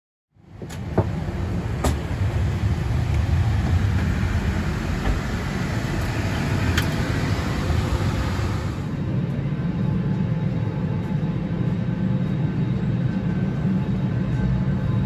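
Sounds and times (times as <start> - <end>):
airplane rumble: 0.4 - 15.0.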